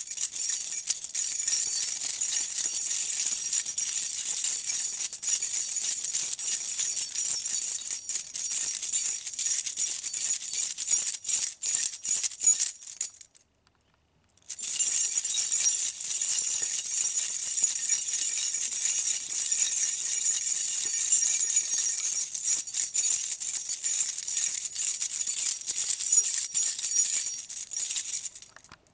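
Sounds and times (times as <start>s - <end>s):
keys jangling on a ring: 0.0s - 13.4s, 14.5s - 28.8s.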